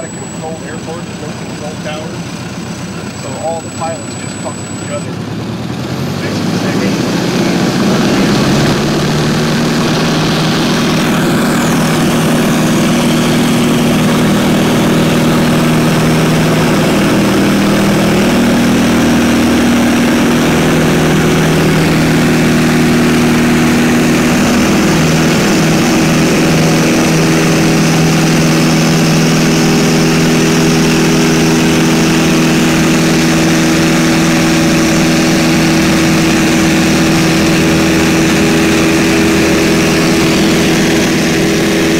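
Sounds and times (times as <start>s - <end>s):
propeller plane engine drone: 0.0s - 41.9s.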